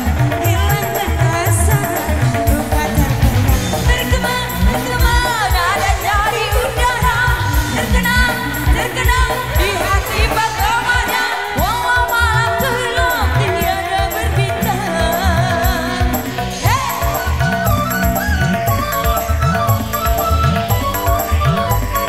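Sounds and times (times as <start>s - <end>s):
fast drum beat: 0.0s - 22.0s
keyboard: 0.0s - 22.0s
women singing: 0.0s - 22.0s.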